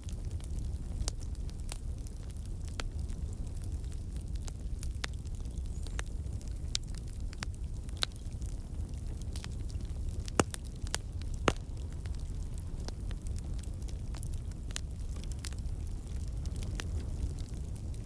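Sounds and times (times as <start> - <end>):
campfire flame rumble: 0.0 - 18.0
logs crackling and popping: 0.0 - 18.0.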